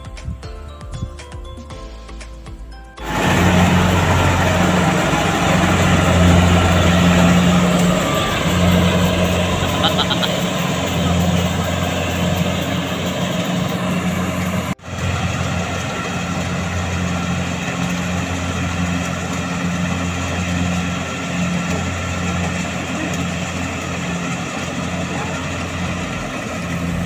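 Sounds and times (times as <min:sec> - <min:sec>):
combine harvester engine humming: 0:03.0 - 0:27.0.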